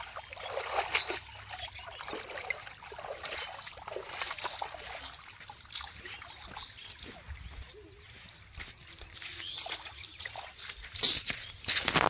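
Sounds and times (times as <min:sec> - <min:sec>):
river water splashing: 0:00.0 - 0:08.5, 0:09.1 - 0:11.8.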